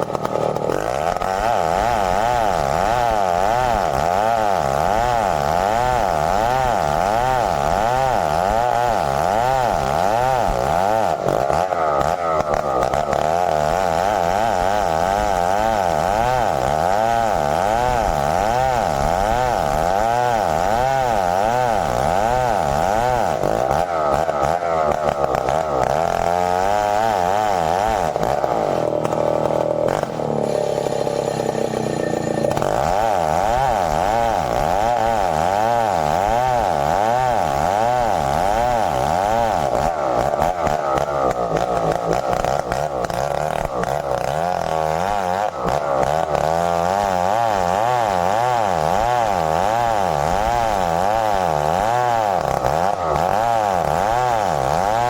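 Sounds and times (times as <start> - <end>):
chainsaw cutting hardwood: 0.0 - 55.0.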